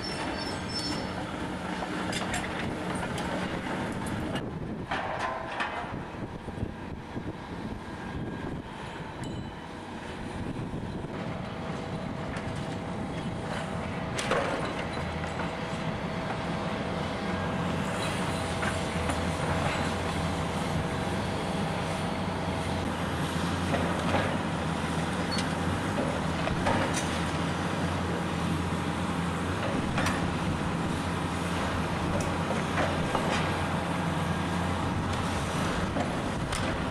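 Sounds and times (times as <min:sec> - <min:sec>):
excavator diesel engines droning: 0:00.0 - 0:36.9.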